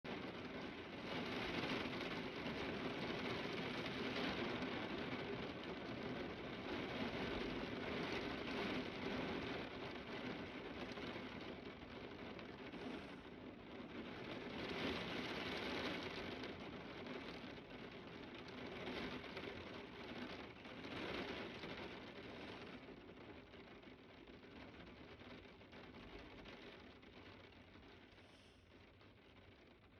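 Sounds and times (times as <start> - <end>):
rain pouring: 0.1 - 29.9.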